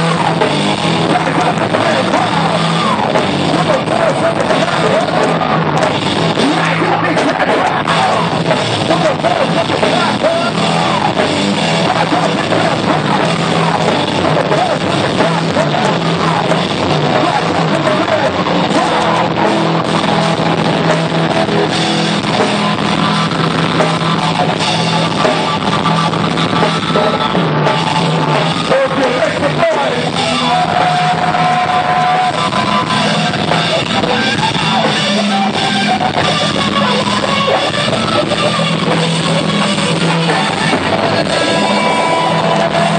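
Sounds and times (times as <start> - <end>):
drum kit: 0.0 - 42.9
electric guitar: 0.0 - 42.9
rock band playing live: 0.0 - 42.9.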